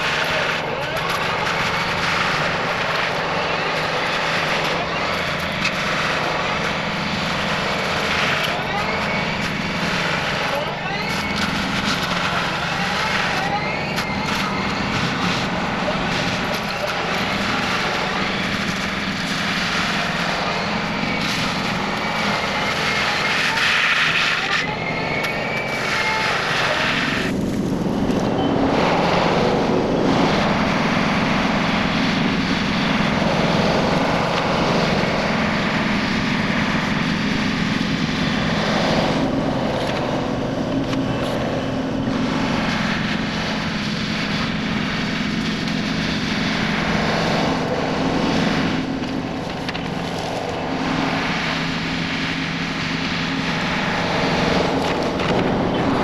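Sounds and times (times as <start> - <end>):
heavy machine engine drone: 0.0 - 56.0
mulcher cutting through brush: 0.0 - 56.0.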